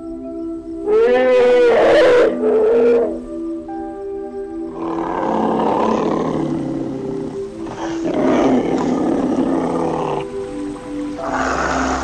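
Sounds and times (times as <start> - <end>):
background music melody: 0.0 - 12.0
rough animal calls: 0.9 - 3.2, 4.7 - 12.0.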